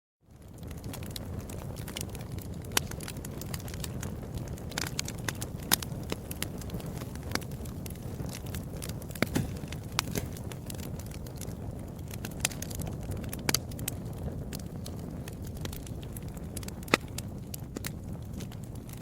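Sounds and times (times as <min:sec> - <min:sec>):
fire popping: 0:00.2 - 0:19.0
wood fire rumbling: 0:00.2 - 0:19.0.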